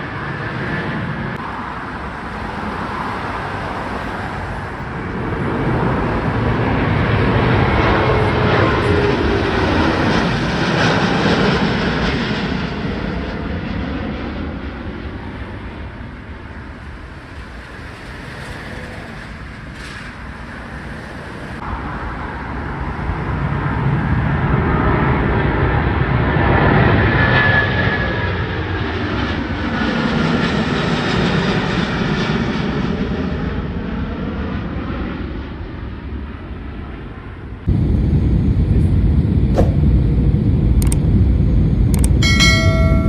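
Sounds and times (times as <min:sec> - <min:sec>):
jet engines on takeoff: 0:00.0 - 0:43.0.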